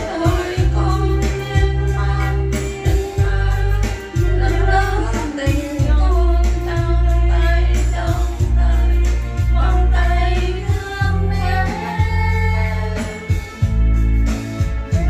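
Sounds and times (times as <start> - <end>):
woman singing into microphone: 0.0 - 13.7
backing track with deep bass: 0.0 - 15.0.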